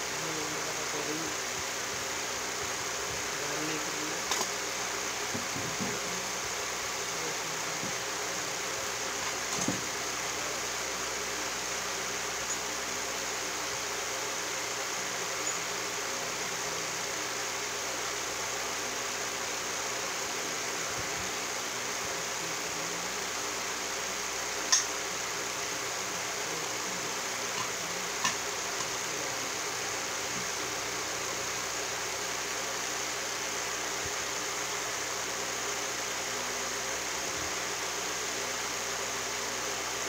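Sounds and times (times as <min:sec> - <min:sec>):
steady hiss: 0:00.0 - 0:40.0.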